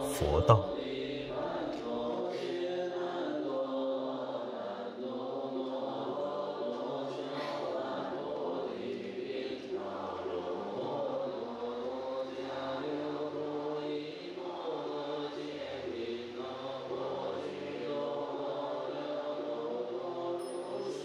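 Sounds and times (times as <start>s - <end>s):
group chanting in unison: 0.0s - 21.0s.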